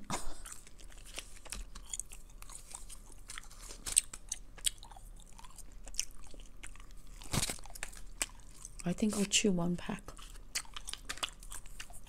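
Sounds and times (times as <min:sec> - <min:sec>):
gum chewing: 0:00.0 - 0:09.3, 0:10.0 - 0:12.0
gum wrapper crinkling and tearing: 0:00.4 - 0:09.4, 0:10.0 - 0:12.0.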